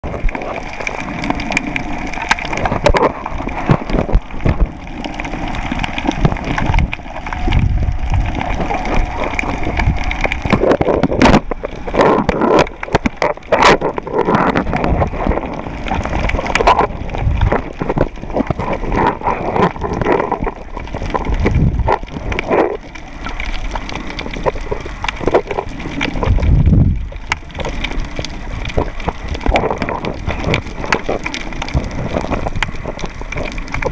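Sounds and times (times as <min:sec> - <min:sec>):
sharp underwater clicks: 0:00.0 - 0:33.9
underwater sloshing and gurgling: 0:00.0 - 0:33.9.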